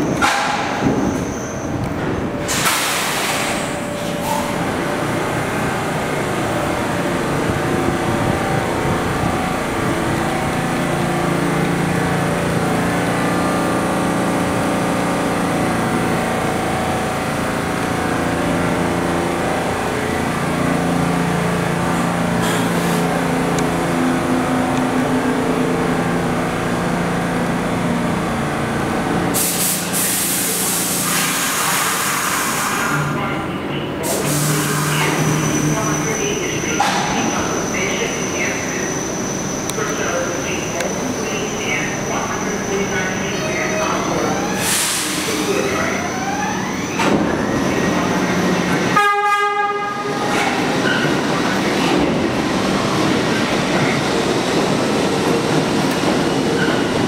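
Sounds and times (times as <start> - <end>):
subway train traction motors whining: 0.0 - 57.0.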